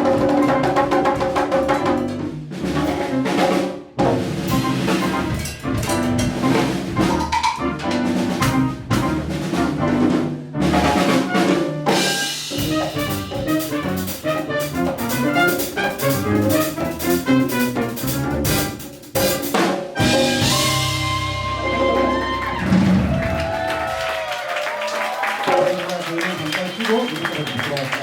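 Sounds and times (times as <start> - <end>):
latin jazz band playing: 0.0 - 24.0.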